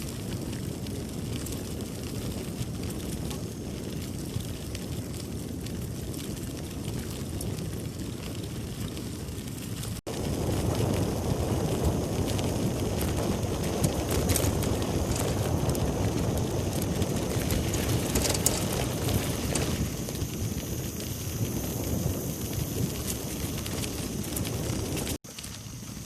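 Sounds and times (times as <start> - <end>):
wind rushing over microphone: 0.0 - 25.9
bicycle tyre rumbling: 0.0 - 26.0.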